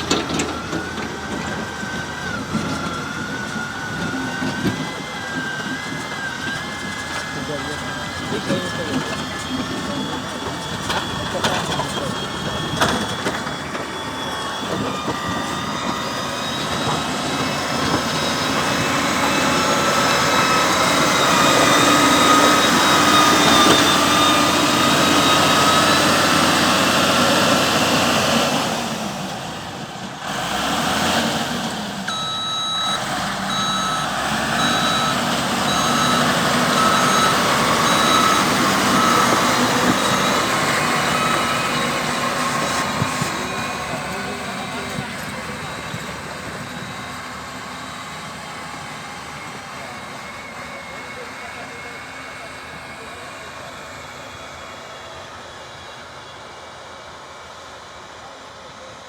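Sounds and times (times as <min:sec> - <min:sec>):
reversing alarm beeping: 0:00.0 - 0:29.7, 0:30.9 - 0:55.4
heavy vehicle engine running: 0:00.0 - 0:59.0.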